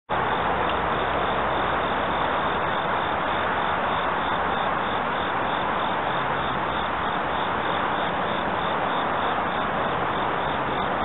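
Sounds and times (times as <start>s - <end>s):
steady outdoor rushing noise: 0.1s - 11.0s.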